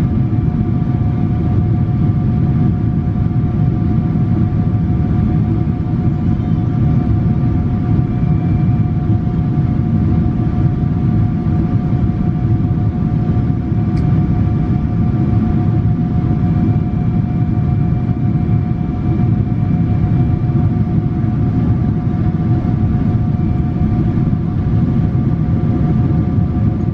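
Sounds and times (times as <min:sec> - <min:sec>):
jet engine roar in cabin: 0:00.0 - 0:26.9
steady whining tones: 0:04.0 - 0:26.9.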